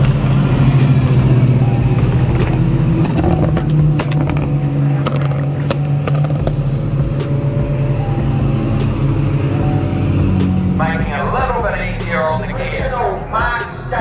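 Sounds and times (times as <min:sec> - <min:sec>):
background music: 0:00.0 - 0:14.0
race car engines driving past: 0:00.0 - 0:14.0
steady low drone: 0:00.0 - 0:14.0.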